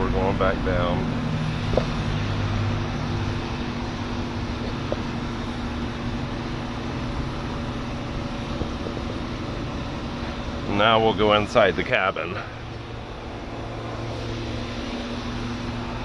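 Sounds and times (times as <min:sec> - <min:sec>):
steady mechanical drone: 0:00.0 - 0:16.0.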